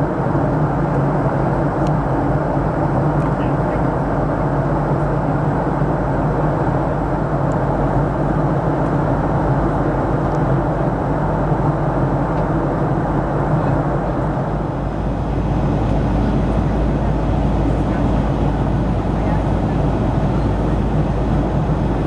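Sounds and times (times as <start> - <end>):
airflow rush around fuselage: 0.0 - 22.0
airplane cabin engine hum: 0.0 - 22.0.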